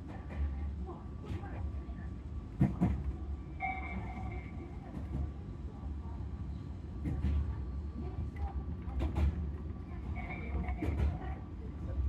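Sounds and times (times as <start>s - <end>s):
train rumble inside car: 0.0s - 12.0s.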